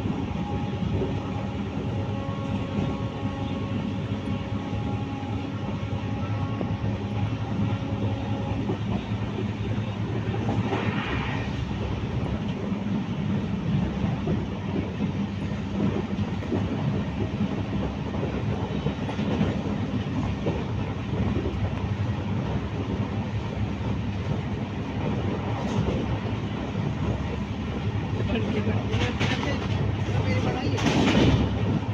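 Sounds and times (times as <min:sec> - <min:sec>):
train rumbling and rattling on rails: 0:00.0 - 0:31.9.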